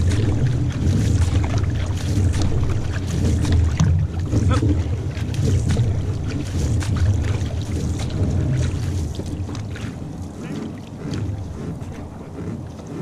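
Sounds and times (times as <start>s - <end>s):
paddles splashing into water: 0.0s - 13.0s
water rushing along hull: 0.0s - 13.0s
wind rumble on microphone: 0.0s - 13.0s.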